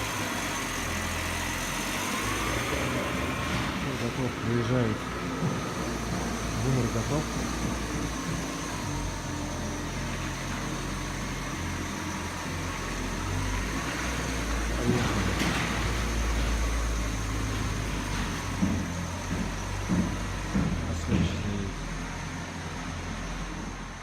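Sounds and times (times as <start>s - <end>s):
suv engine driving away: 0.0s - 24.0s.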